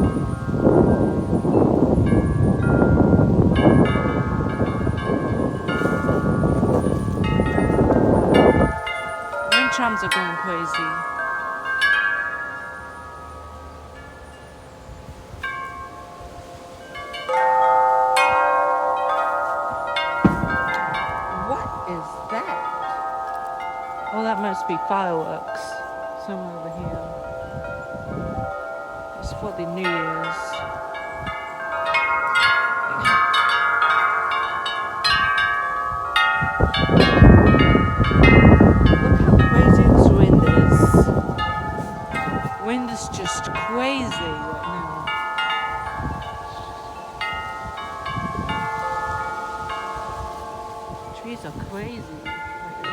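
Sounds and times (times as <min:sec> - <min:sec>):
strong gusty wind: 0:00.0 - 0:52.9
wind chimes ringing: 0:00.0 - 0:52.9.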